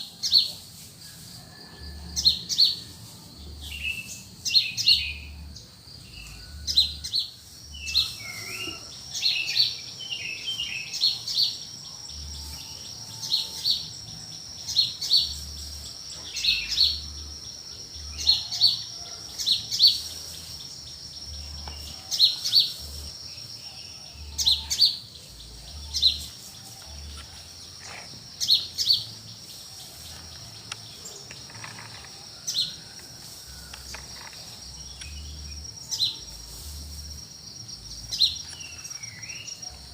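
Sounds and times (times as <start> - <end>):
insect drone: 0.0 - 39.9
birds chirping: 2.2 - 39.9
birds warbling: 3.5 - 36.7.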